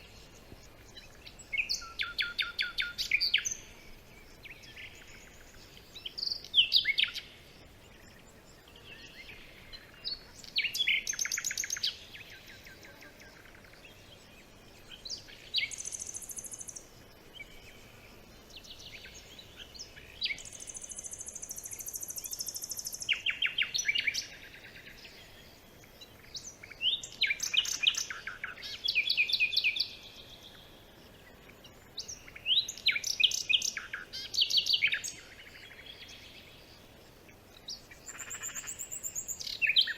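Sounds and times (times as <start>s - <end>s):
songbirds singing trilled notes: 0.0s - 39.9s.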